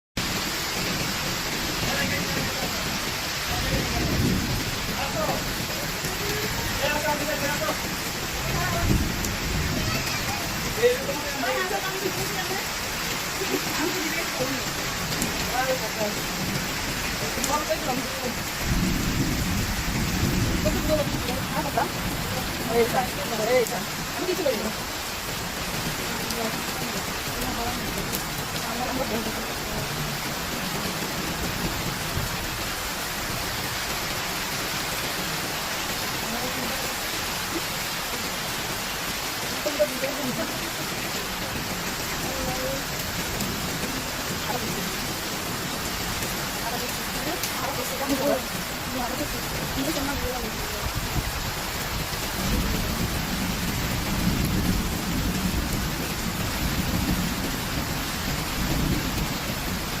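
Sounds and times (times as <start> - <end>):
heavy rain: 0.2 - 60.0.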